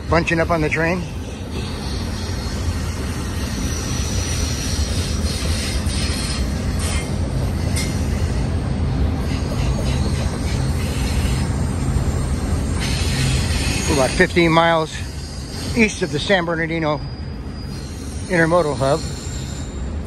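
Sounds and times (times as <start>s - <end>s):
freight train wheels rumbling: 0.0s - 20.0s
wheel squeal: 0.0s - 20.0s.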